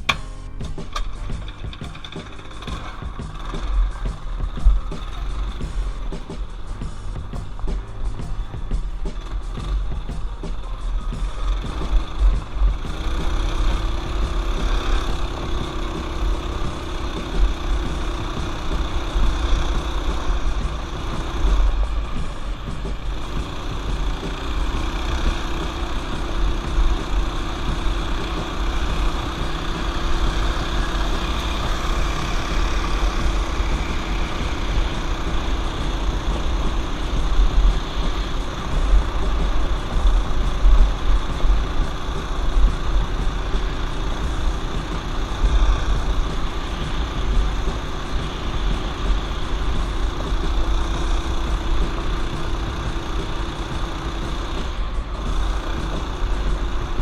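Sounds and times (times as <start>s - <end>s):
mini bike engine rumbling: 0.0s - 57.0s.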